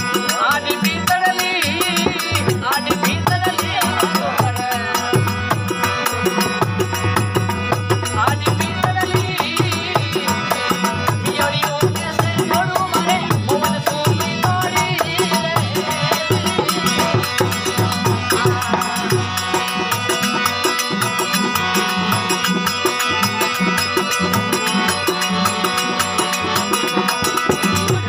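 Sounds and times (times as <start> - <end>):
devotional folk music: 0.0 - 28.0
rattling percussion beat: 0.0 - 28.0.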